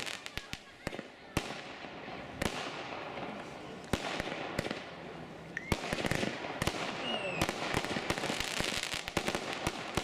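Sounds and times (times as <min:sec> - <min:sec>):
firework crackling: 0:00.0 - 0:10.0.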